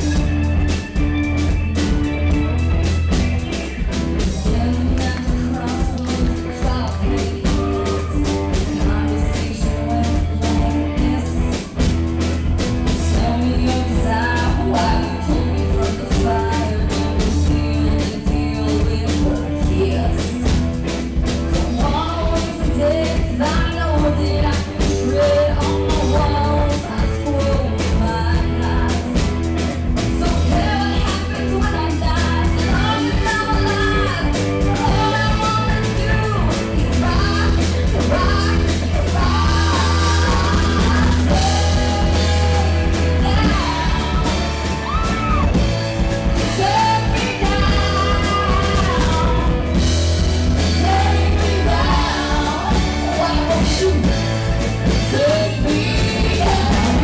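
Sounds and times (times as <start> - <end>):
rock band playing: 0.0 - 57.0
woman singing: 4.2 - 11.9, 12.8 - 45.7, 46.3 - 57.0.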